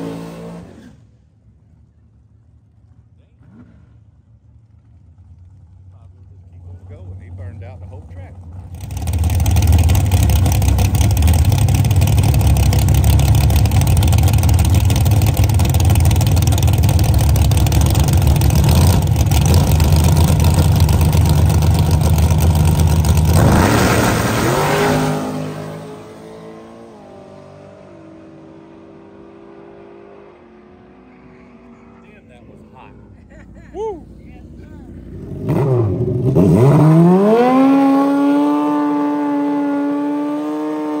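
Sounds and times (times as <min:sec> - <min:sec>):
race car engine revving: 0:05.7 - 0:33.4, 0:34.1 - 0:41.0.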